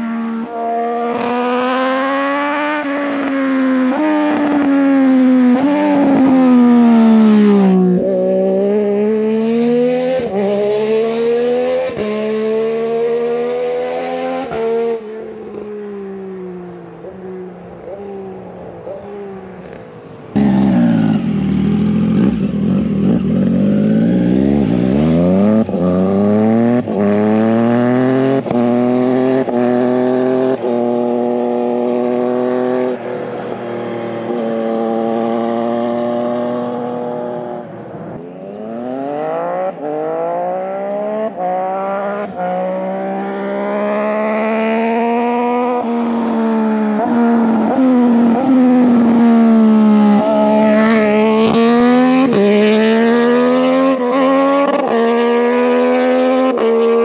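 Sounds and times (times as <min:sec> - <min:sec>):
motorcycle engine accelerating through gears: 0:00.0 - 0:57.0.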